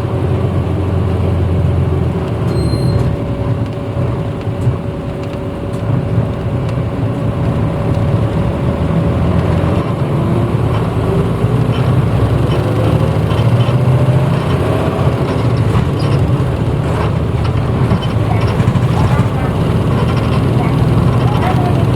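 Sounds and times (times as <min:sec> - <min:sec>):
bus engine and road rumble: 0:00.0 - 0:21.9.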